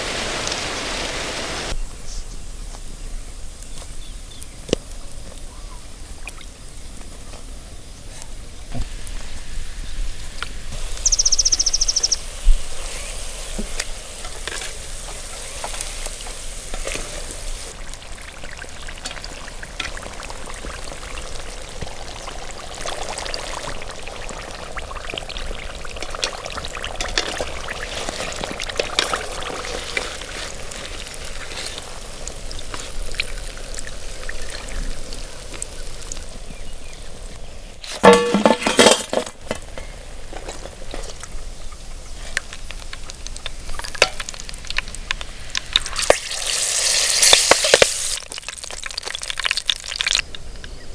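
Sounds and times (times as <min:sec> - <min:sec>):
food deep-frying in hot oil: 0:08.6 - 0:38.4, 0:39.5 - 0:50.9.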